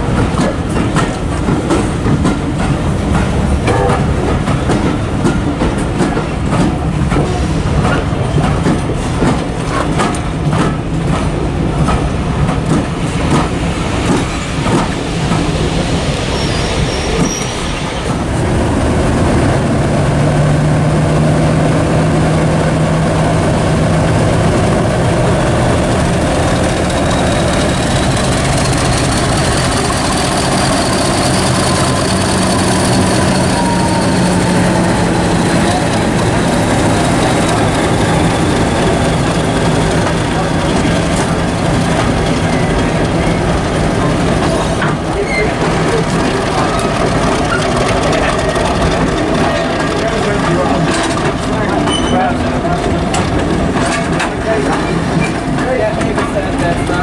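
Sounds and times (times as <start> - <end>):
diesel locomotive engine running: 0.0 - 57.0
train wheels clicking over rail joints: 0.0 - 57.0.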